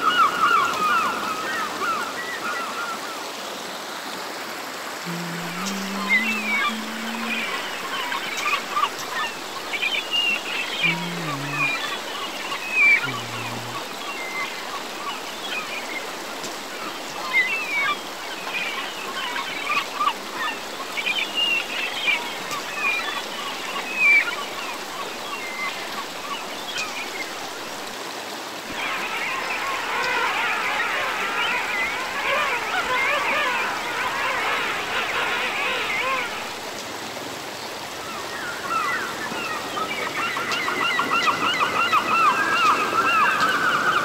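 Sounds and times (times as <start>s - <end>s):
stream gurgling over stones: 0.0s - 44.0s.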